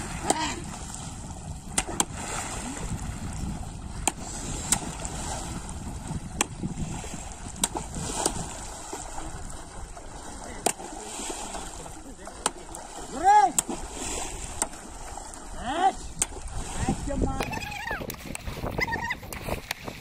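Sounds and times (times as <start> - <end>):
poles slapping water: 0.0 - 20.0
water sloshing as people wade: 0.0 - 20.0.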